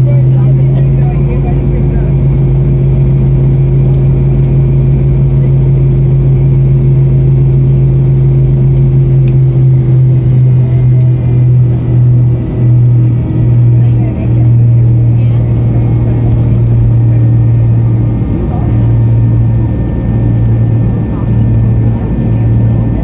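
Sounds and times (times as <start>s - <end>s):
airliner cabin engine drone: 0.0s - 23.0s
steady hum: 0.0s - 23.0s.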